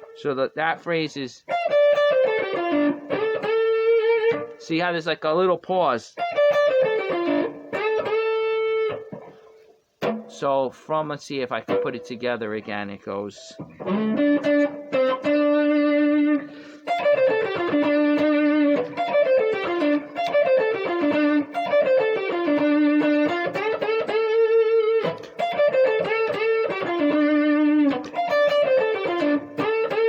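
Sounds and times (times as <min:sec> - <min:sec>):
electric guitar blues solo: 0:00.0 - 0:00.3, 0:01.4 - 0:05.1, 0:06.1 - 0:10.8, 0:11.4 - 0:30.0.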